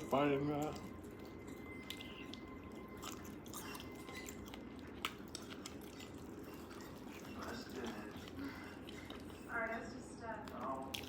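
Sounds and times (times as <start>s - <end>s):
person chewing food: 0.0s - 9.8s, 10.4s - 11.0s.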